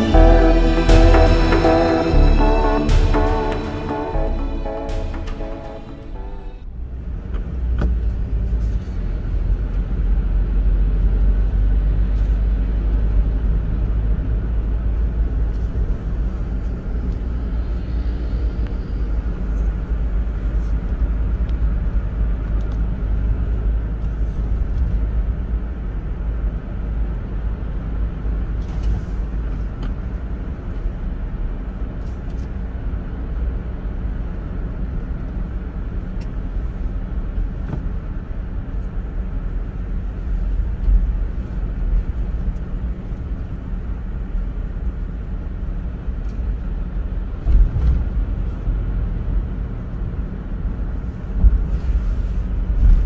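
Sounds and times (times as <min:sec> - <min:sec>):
car interior road rumble: 0:06.7 - 0:53.0.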